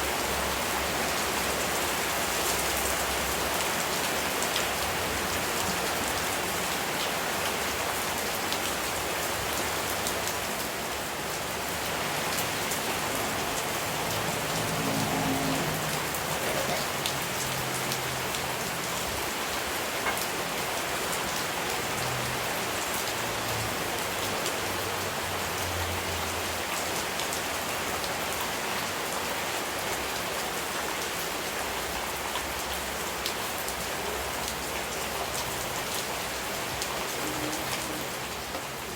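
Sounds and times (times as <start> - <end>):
steady rain hiss: 0.0 - 38.9
raindrops ticking on a surface: 0.1 - 38.9.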